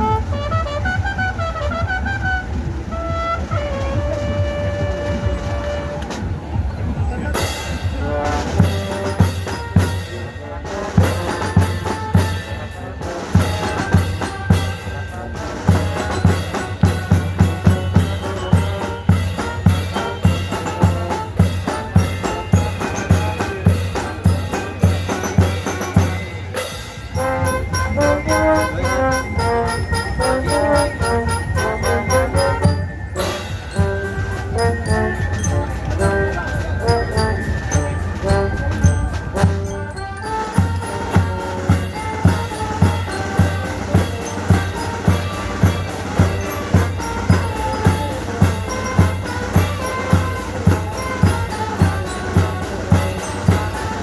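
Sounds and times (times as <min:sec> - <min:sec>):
brass playing melody: 0:00.0 - 0:06.3, 0:07.4 - 0:54.0
band music: 0:00.0 - 0:54.0
drums beating: 0:00.0 - 0:54.0.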